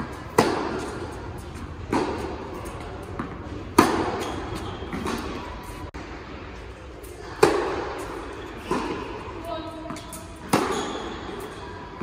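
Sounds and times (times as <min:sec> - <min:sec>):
racket hitting tennis ball: 0:00.0 - 0:05.9, 0:07.0 - 0:09.3, 0:09.9 - 0:11.6.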